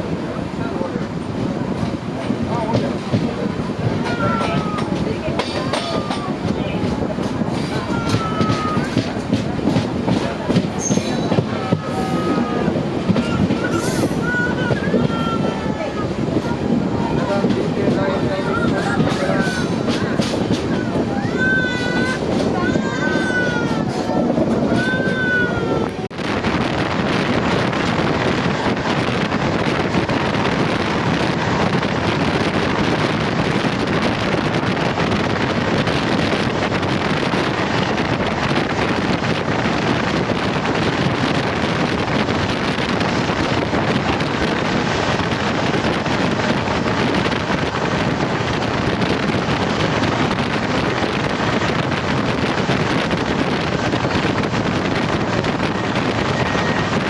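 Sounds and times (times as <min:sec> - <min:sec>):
train rushing at speed: 0:00.0 - 0:57.0
wind buffeting microphone: 0:00.0 - 0:57.0.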